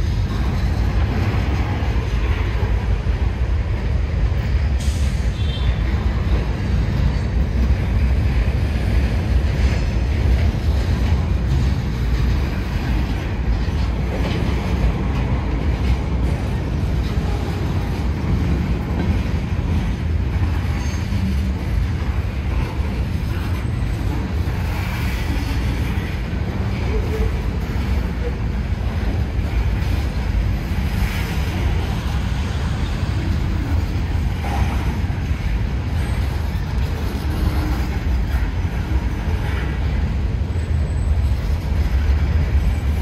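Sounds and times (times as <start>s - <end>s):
steel wheels rumbling on rails: 0.0s - 43.0s
wheels clacking over rail joints: 0.0s - 43.0s.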